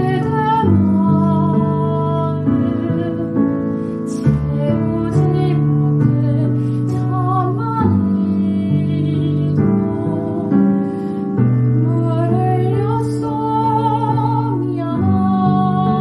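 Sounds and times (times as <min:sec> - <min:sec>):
woman singing with vibrato: 0:00.0 - 0:10.8, 0:11.8 - 0:16.0.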